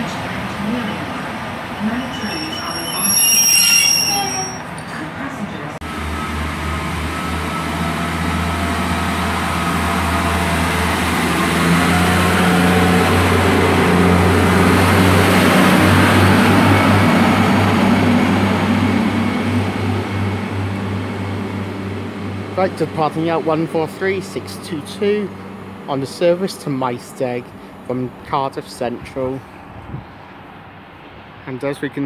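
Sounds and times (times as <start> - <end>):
diesel train engine humming: 0.0 - 30.9.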